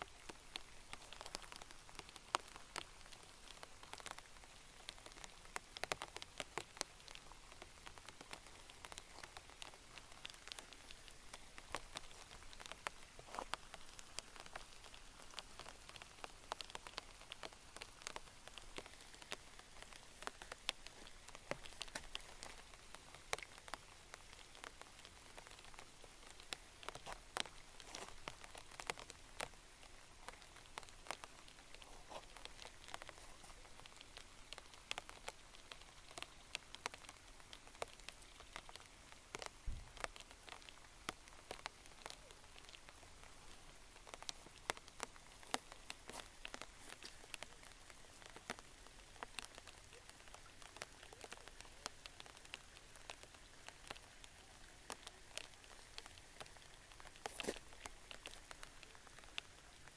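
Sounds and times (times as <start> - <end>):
light rain hiss: 0.0 - 59.9
raindrop ticks: 0.0 - 59.9.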